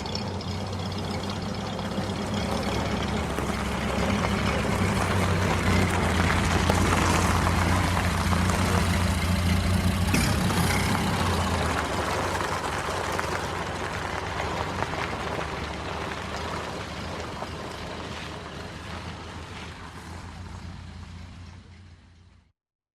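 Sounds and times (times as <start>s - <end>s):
car engine driving away: 0.0s - 22.5s.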